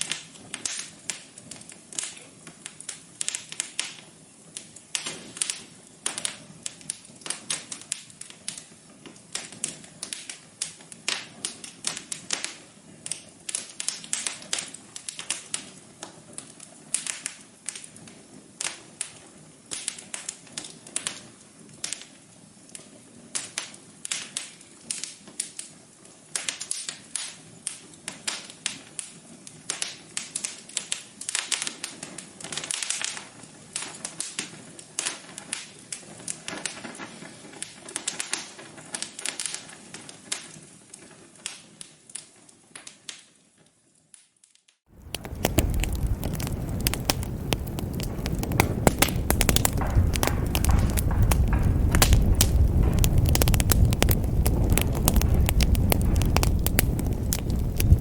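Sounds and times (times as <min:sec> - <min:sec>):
fire rumbling with dense crackling: 0:00.0 - 0:42.4, 0:44.9 - 0:58.0
wood fire crackling: 0:00.0 - 0:43.4, 0:44.8 - 0:58.0.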